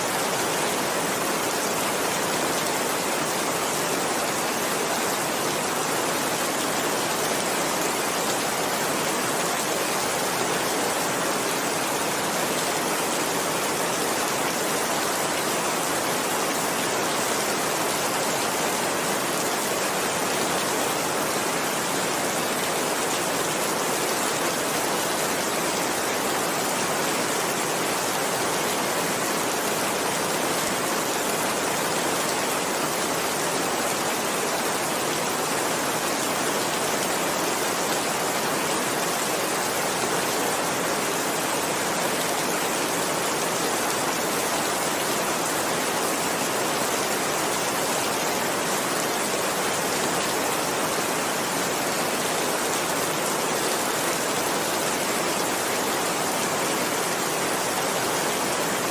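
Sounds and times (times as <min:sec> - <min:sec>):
heavy rain downpour: 0:00.0 - 0:58.9.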